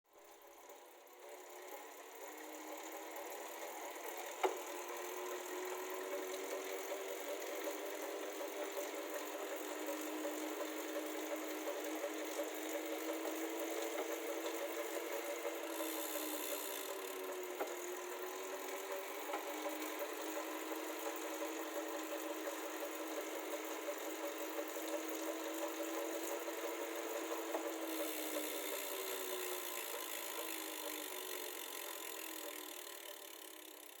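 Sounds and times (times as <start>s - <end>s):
bike trainer whine: 0.1s - 34.0s.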